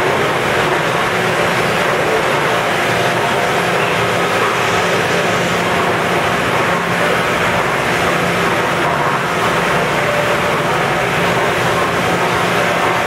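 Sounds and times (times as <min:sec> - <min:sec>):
dish machine running: 0:00.0 - 0:13.0.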